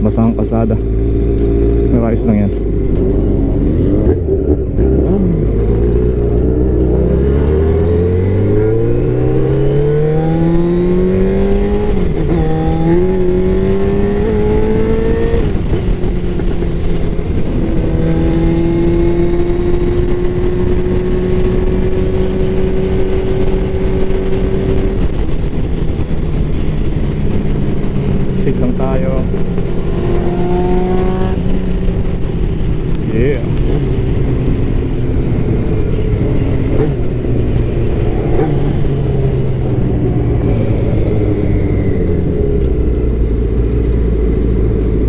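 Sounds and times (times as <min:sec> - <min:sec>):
motorcycle engine accelerating: 0:00.0 - 0:45.0
wind and road noise: 0:00.0 - 0:45.0.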